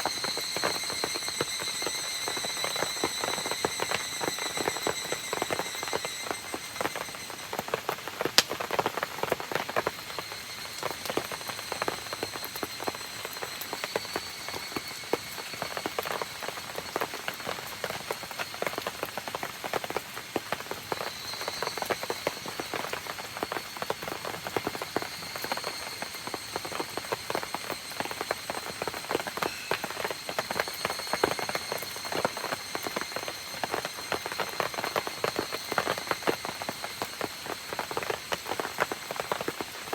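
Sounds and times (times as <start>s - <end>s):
campfire crackling: 0.0s - 39.9s
faint high-pitched trill: 0.0s - 39.9s
rain pattering: 0.0s - 39.9s.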